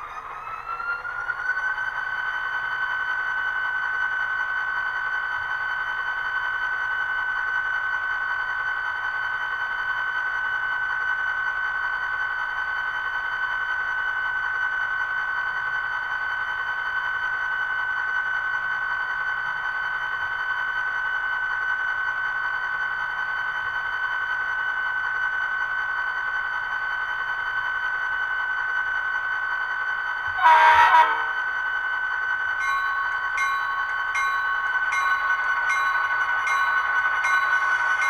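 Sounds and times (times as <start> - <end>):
model train diesel idling sound: 0.0 - 38.0.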